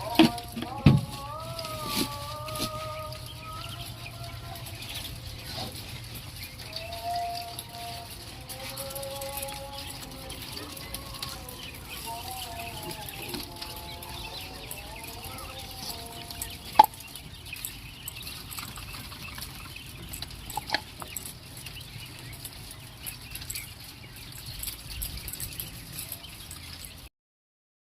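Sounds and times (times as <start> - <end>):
quail calling and clucking: 0.0 - 27.1.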